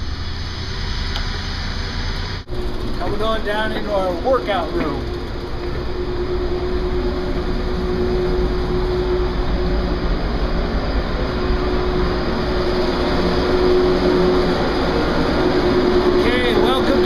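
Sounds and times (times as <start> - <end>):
ship machinery drone: 0.0 - 17.0.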